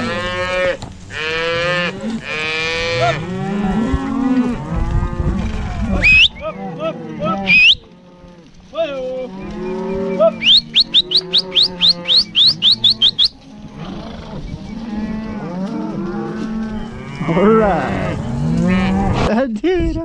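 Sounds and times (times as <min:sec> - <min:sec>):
cattle mooing and bawling: 0:00.0 - 0:19.3.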